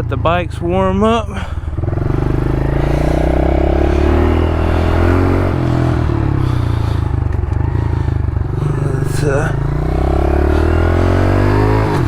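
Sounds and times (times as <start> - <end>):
motorbike engines idling: 0.0 - 12.0.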